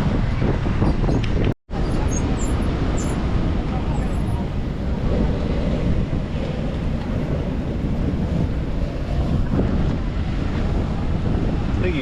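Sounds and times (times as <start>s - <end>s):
wind buffeting microphone: 0.0s - 12.0s
ocean waves: 1.7s - 12.0s.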